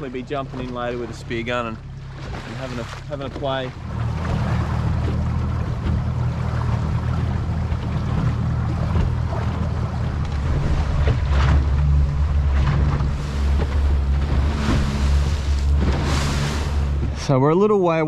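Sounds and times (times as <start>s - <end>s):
outboard motor droning: 0.0s - 18.0s
wind and water rushing: 0.0s - 18.0s.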